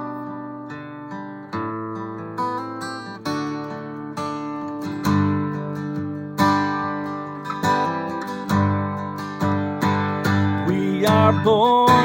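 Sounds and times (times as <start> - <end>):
acoustic guitar chords ringing: 0.0 - 12.0.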